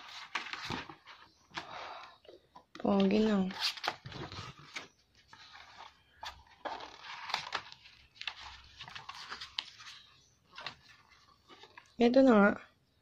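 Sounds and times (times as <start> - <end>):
book pages turning: 0.0 - 2.1, 2.7 - 12.0.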